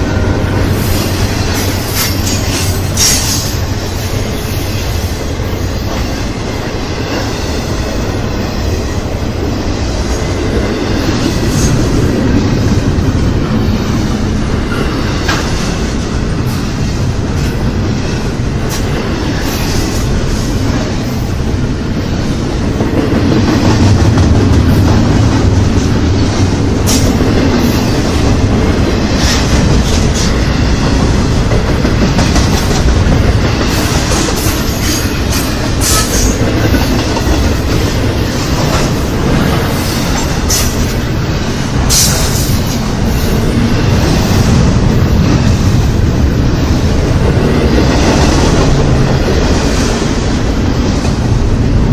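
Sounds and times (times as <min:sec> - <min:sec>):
freight train cars rolling past: 0:00.0 - 0:51.9.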